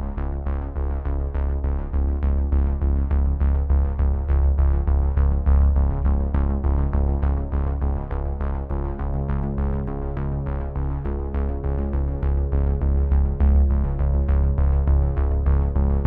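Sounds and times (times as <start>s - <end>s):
held low bass: 0.0s - 16.0s.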